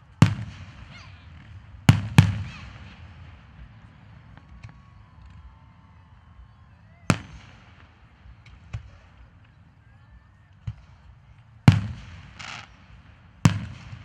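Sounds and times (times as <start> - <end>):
fireworks bangs: 0.0 - 5.8, 7.1 - 9.3, 10.7 - 14.0.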